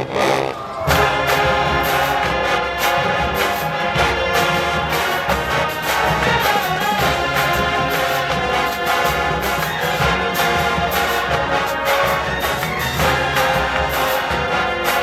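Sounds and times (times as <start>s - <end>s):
brass section loud chords: 0.0s - 15.0s
drum and cymbal beat: 0.9s - 15.0s.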